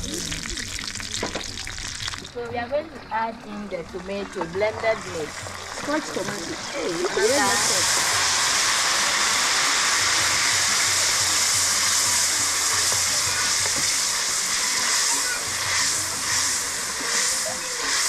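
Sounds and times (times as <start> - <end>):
sauce sizzling in hot oil: 0.0 - 2.6, 3.5 - 18.0.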